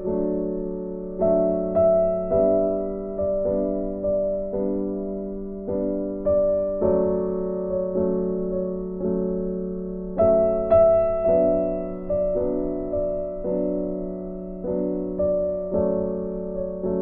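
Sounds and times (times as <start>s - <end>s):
slow gentle piano chords: 0.0s - 17.0s.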